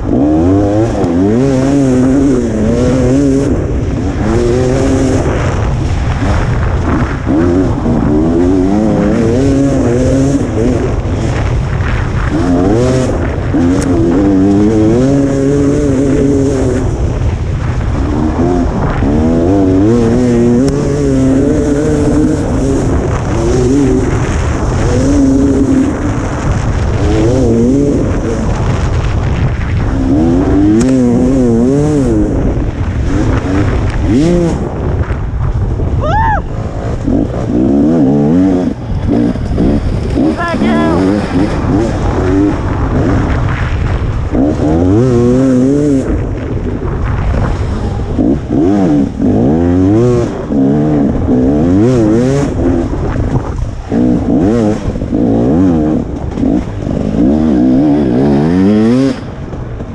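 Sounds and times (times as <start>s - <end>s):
dirt bike engine revving: 0.0s - 59.9s
wind and tyre noise: 0.0s - 59.9s.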